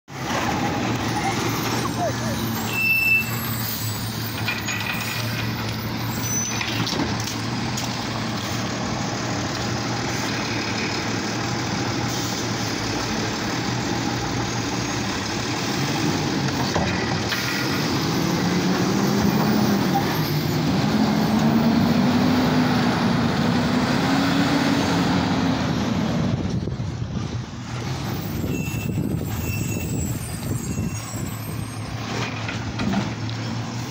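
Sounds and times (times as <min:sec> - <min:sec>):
garbage truck diesel engine: 0:00.1 - 0:33.9.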